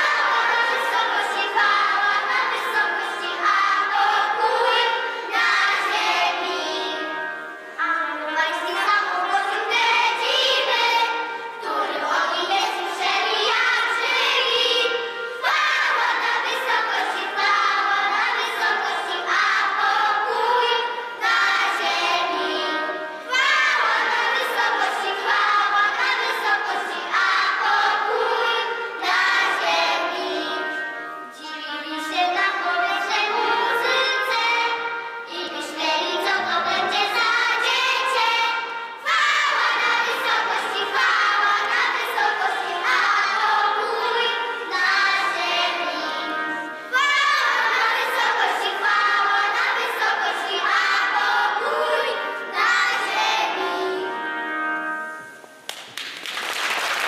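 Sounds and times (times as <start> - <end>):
children's choir singing a carol: 0.0 - 55.9.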